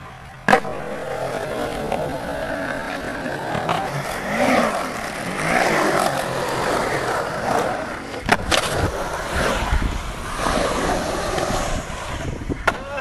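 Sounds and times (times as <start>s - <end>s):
skateboard wheels rolling on concrete: 0.0s - 13.0s
skateboard clacking on concrete: 0.3s - 12.0s.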